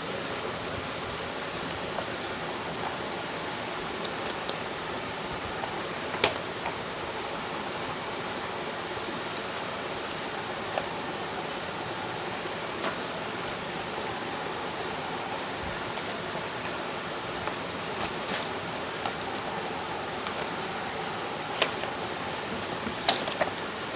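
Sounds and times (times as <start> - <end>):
steady hiss: 0.0 - 23.9.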